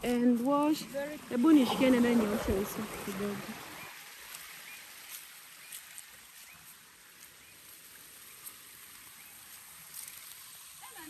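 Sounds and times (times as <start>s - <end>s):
stream rushing over cascade: 0.0s - 11.0s.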